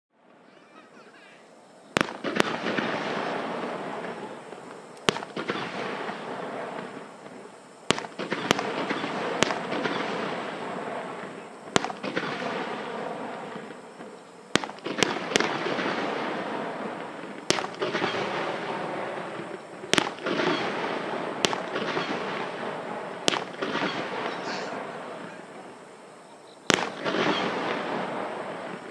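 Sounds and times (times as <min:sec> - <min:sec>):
fireworks crackling: 0:00.2 - 0:28.9
firework shells bursting: 0:01.9 - 0:26.0, 0:26.6 - 0:28.9.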